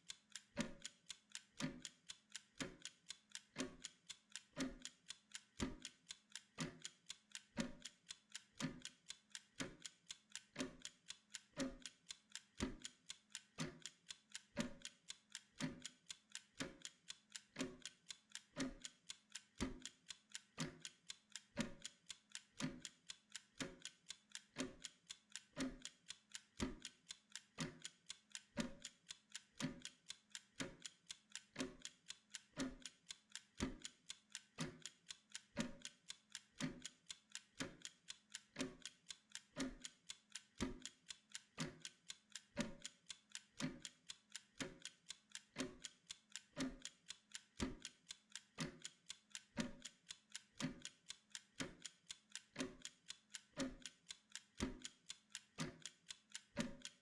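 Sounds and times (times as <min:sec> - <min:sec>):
kitchen timer ticking: 0:00.0 - 0:57.0.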